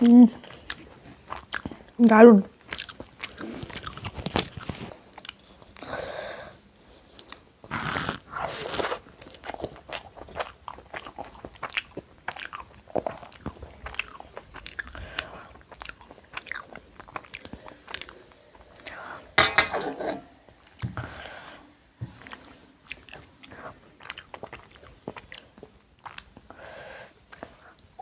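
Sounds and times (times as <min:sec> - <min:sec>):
close chewing and biting: 0:00.0 - 0:02.0, 0:02.6 - 0:05.9, 0:06.5 - 0:19.0, 0:22.1 - 0:26.6, 0:27.2 - 0:28.0.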